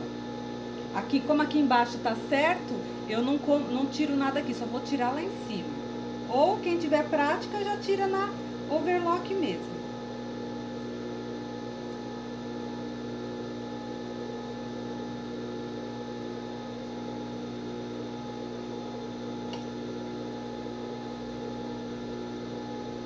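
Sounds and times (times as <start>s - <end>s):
overlock machine motor humming: 0.0s - 23.0s.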